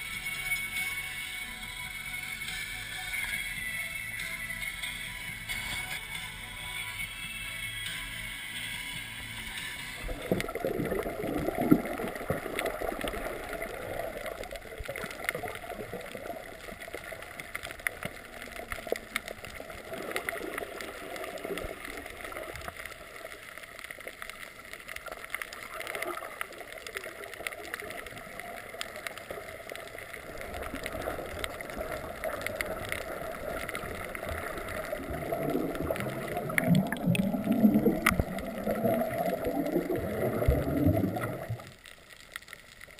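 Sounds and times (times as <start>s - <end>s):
muffled water sloshing underwater: 8.3s - 42.9s.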